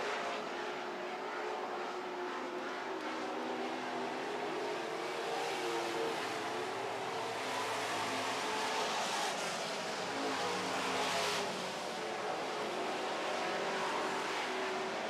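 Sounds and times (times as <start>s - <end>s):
trucks racing engines: 0.0s - 15.0s.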